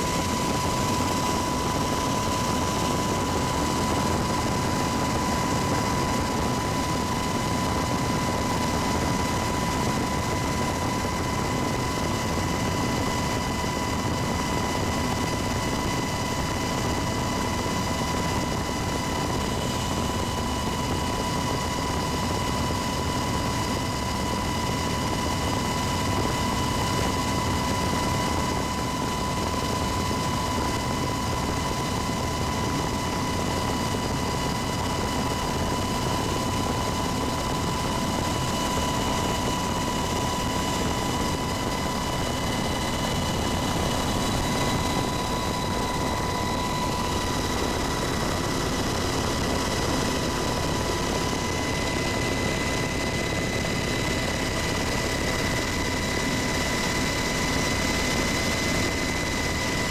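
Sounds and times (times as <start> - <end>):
helicopter rotor and turbine drone: 0.0 - 59.9.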